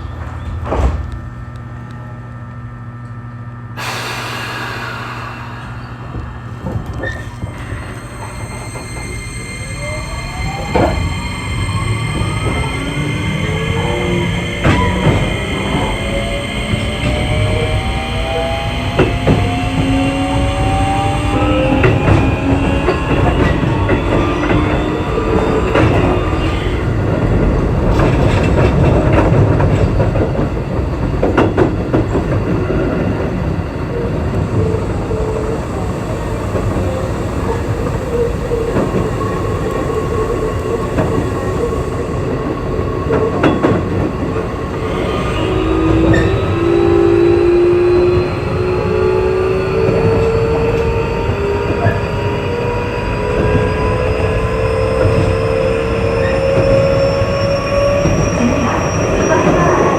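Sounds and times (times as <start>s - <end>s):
train wheel and rail rumble: 0.0s - 59.9s
traction motor whine rising: 3.8s - 59.9s.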